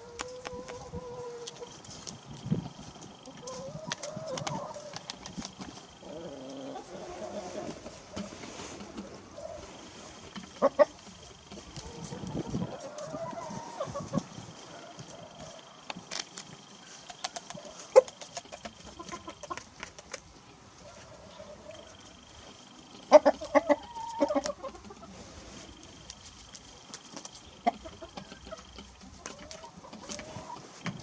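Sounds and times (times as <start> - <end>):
rooster clucking: 3.1 - 26.2, 27.0 - 31.0.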